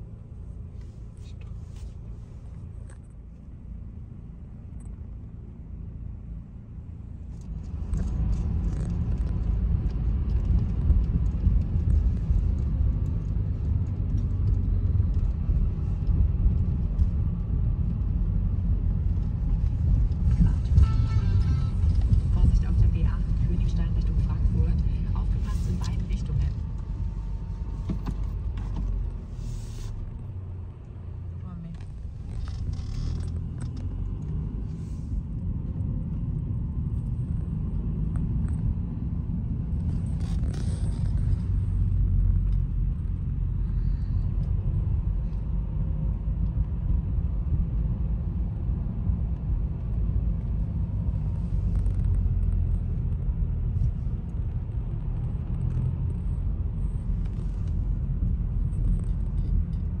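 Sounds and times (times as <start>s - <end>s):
car engine and tyre noise: 0.0s - 60.0s.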